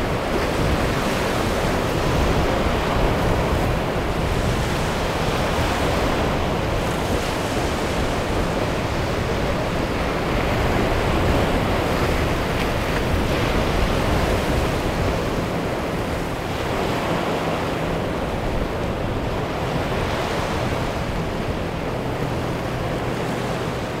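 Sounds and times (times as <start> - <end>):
ocean waves and surf: 0.0 - 24.0
wind: 0.0 - 24.0.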